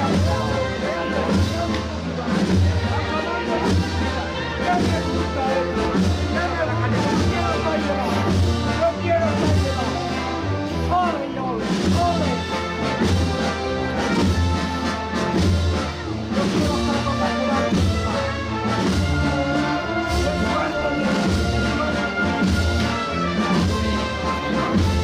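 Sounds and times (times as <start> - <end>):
brass band playing a march: 0.0 - 25.0.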